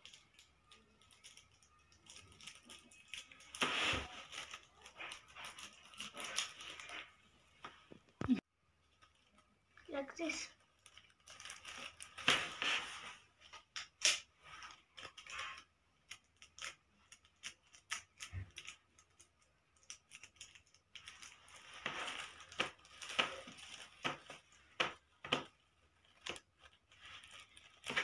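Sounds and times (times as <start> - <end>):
paper crinkling and rustling: 0.0 - 8.0, 8.9 - 28.0.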